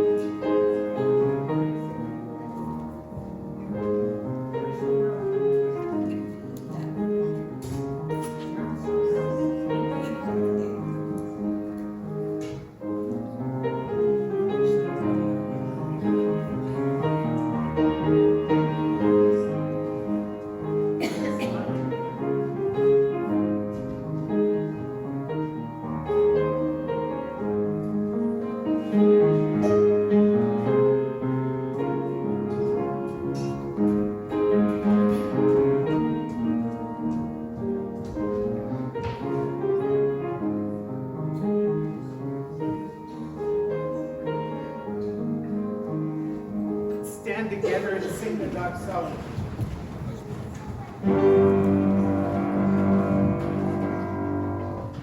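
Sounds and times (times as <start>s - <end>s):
slow keyboard music: 0.0s - 47.5s, 51.0s - 55.0s.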